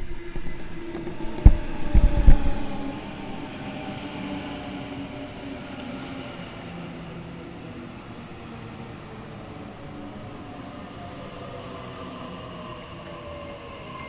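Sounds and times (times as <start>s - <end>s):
electric train rumble and motor hum: 0.0s - 14.0s.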